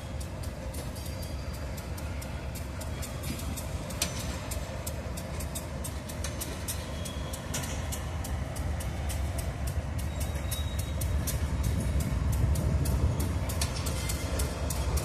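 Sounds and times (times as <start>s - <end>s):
freight train rumbling: 0.0s - 15.0s
train wheels clicking and rattling: 0.0s - 15.0s.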